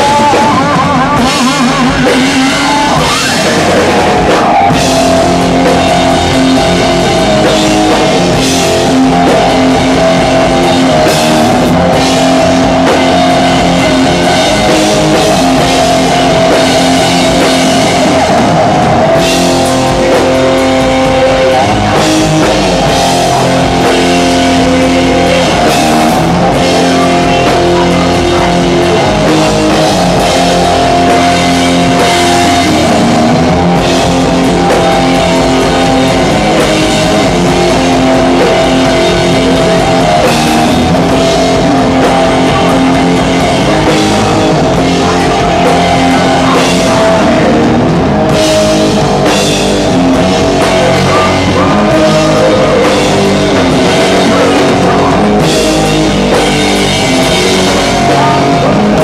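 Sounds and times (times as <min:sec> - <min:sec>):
distorted electric guitar: 0:00.0 - 0:59.0
drums and cymbals: 0:00.0 - 0:59.0
person singing: 0:00.0 - 0:59.0.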